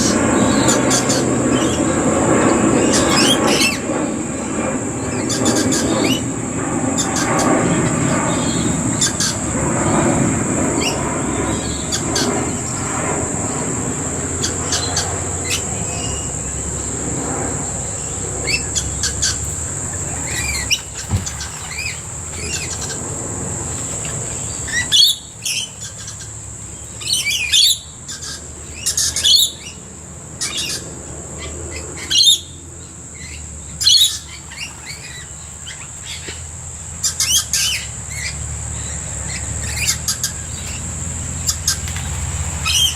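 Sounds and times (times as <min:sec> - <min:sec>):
birds calling in sharp bursts: 0:00.0 - 0:42.9
high insect drone: 0:00.0 - 0:42.9.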